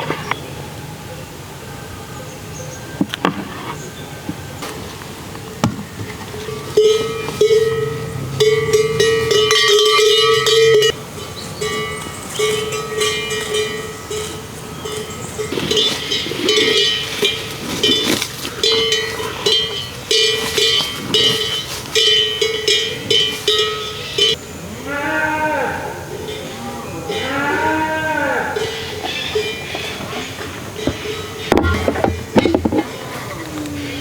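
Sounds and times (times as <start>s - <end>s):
livestock bells clanking: 2.6s - 24.5s, 26.1s - 34.0s.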